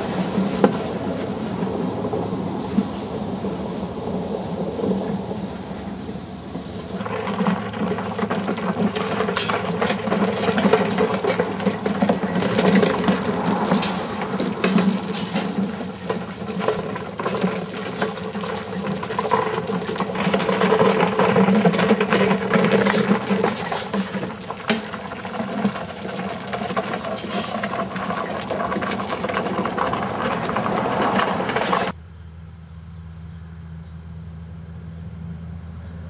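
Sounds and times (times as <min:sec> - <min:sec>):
rattling and clicking: 0:00.0 - 0:32.0.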